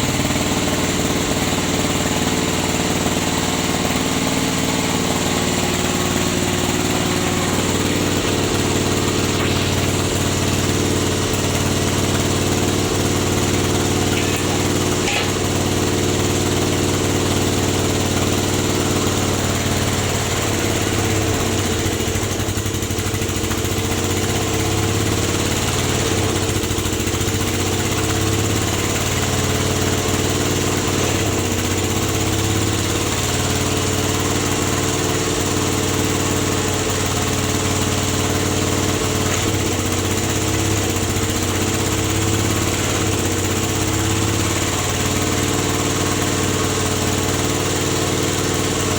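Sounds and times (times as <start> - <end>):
press machine engine running: 0.0 - 48.9.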